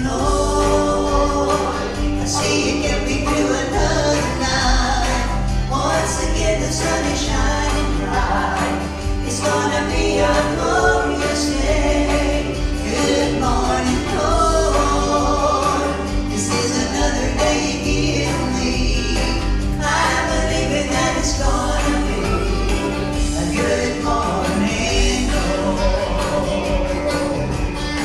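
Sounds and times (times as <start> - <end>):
women's vocal group singing: 0.0 - 27.7
instrumental accompaniment: 0.0 - 28.0.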